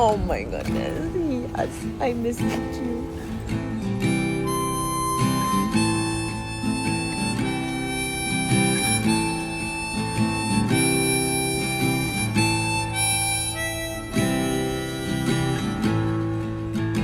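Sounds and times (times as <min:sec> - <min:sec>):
acoustic guitar: 0:00.0 - 0:17.0
harmonica melody: 0:00.0 - 0:17.0.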